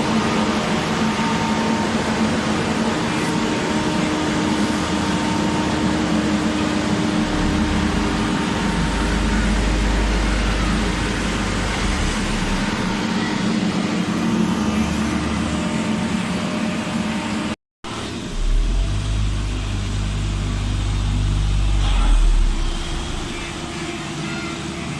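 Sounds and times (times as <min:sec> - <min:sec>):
diesel engine rumbling: 0:00.4 - 0:24.9.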